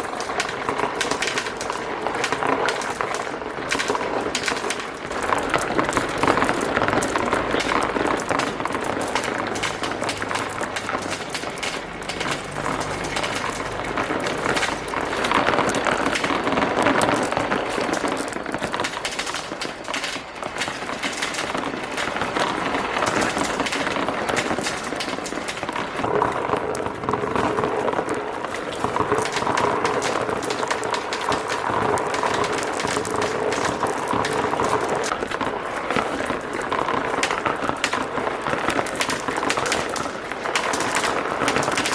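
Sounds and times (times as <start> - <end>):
marbles clattering down plastic tracks: 0.0 - 41.9.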